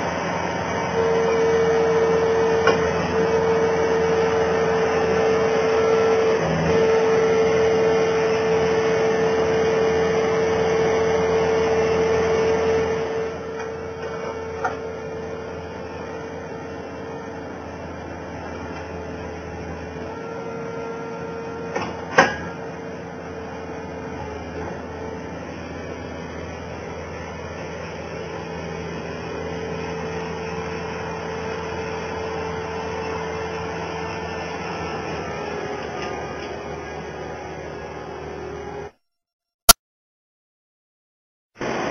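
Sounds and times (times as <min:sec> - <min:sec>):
loader engine running: 0:00.0 - 0:38.9.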